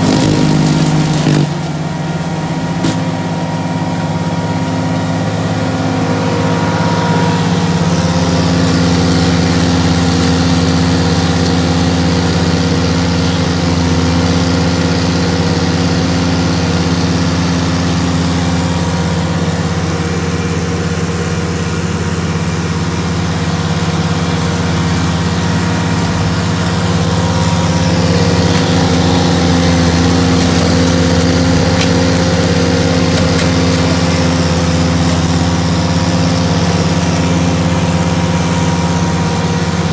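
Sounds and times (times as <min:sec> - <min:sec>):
flail mower chopping grass: 0:00.0 - 0:06.4, 0:07.4 - 0:39.9
skid steer engine under load: 0:00.0 - 0:39.9.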